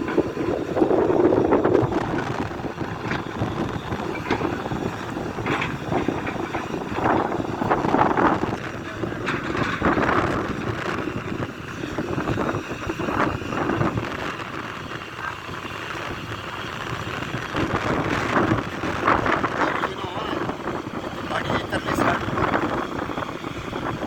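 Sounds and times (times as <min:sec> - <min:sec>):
heavy machinery running: 0:00.0 - 0:24.0
wind buffeting microphone: 0:00.0 - 0:24.0.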